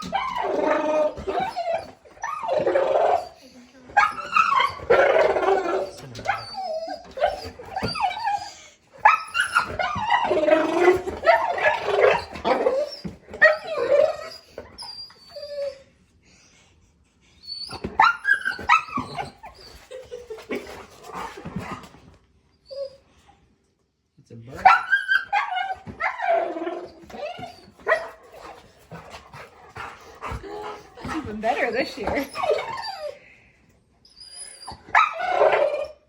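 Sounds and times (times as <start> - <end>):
dog whining and yipping: 0.0 - 15.8, 17.4 - 21.9, 22.5 - 23.2, 24.6 - 33.2, 34.0 - 36.0.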